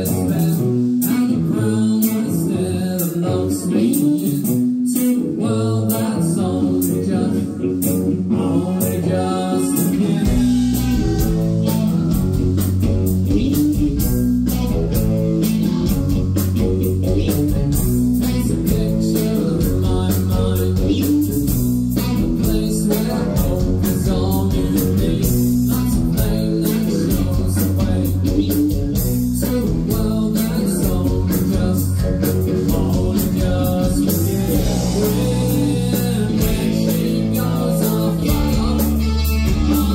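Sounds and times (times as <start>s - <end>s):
bass guitar: 0.0s - 39.9s
drums: 0.0s - 39.9s
electric guitar: 0.0s - 39.9s
man singing lead: 0.0s - 39.9s.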